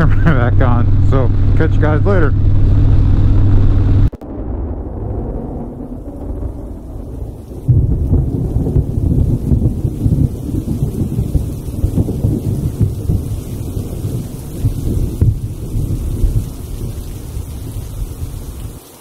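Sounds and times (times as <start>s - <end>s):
wind buffeting microphone: 0.0s - 18.8s.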